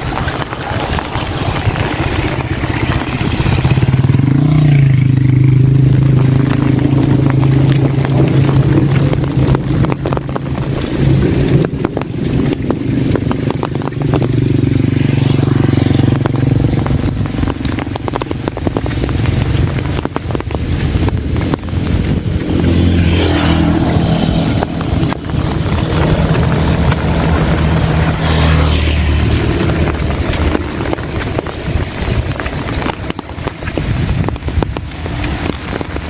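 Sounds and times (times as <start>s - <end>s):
heavy rain on umbrella: 0.0s - 36.0s
low motor hum: 0.2s - 36.0s.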